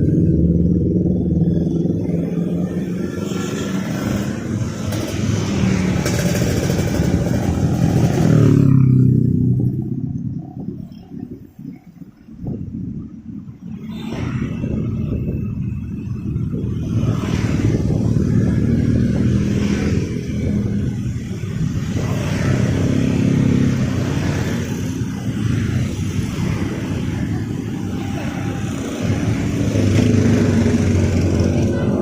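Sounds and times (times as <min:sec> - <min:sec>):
passing vehicle engines: 0:00.0 - 0:32.0.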